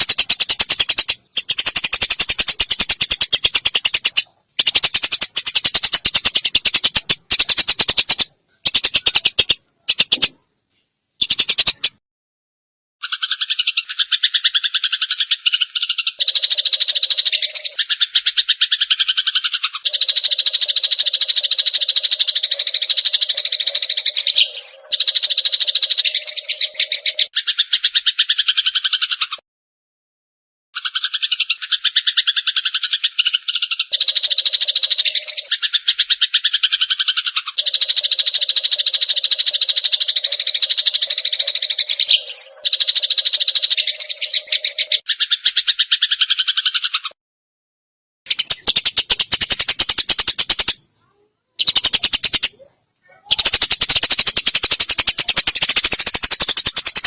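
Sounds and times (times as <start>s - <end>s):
sparrows chattering: 0.0s - 10.4s, 11.2s - 12.0s, 13.0s - 29.4s, 30.8s - 47.2s, 48.3s - 57.0s.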